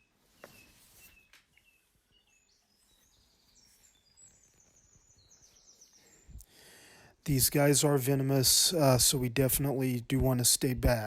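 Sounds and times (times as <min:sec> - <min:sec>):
faint birdsong chirps and trills: 0:00.0 - 0:10.0.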